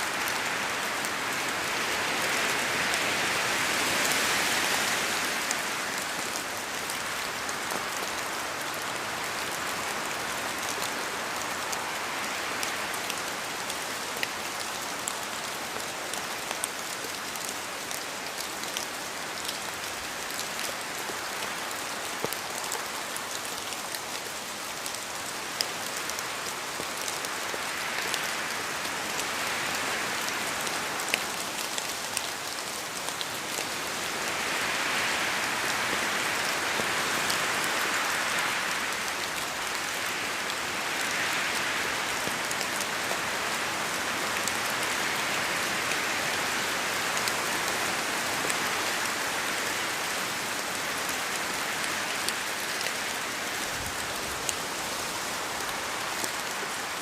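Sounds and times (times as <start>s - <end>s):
steady rain hiss: 0.0s - 57.0s
wind gusts through trees: 0.0s - 57.0s.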